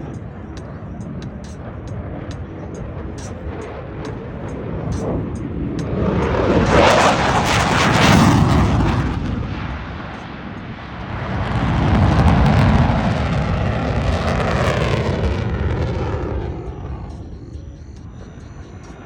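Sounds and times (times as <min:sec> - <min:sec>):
aircraft engine rumbling: 0:00.0 - 0:19.0.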